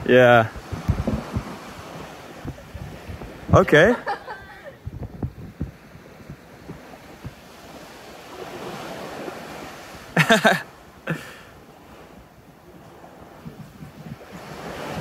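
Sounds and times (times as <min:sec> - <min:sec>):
wind buffeting microphone: 0:00.0 - 0:10.1, 0:11.8 - 0:15.0
waves washing on beach: 0:00.0 - 0:15.0.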